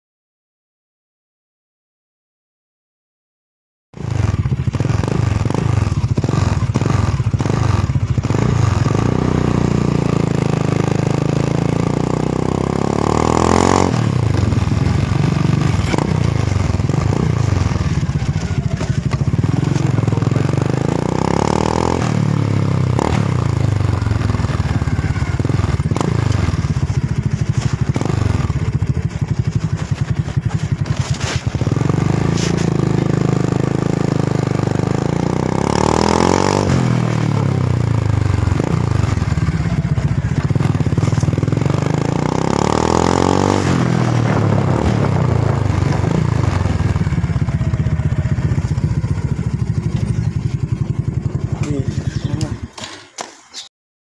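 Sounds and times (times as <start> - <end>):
motorcycle engine revving: 4.0 - 53.5.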